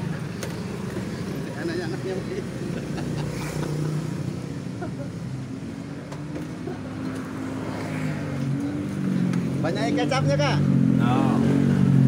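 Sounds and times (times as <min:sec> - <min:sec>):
motorbike engines passing: 0:00.0 - 0:12.0.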